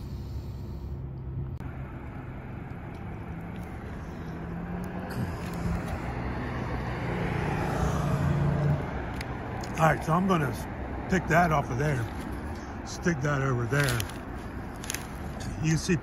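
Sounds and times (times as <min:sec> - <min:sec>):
road noise: 0:00.0 - 0:16.0
vehicle rumble: 0:00.0 - 0:16.0.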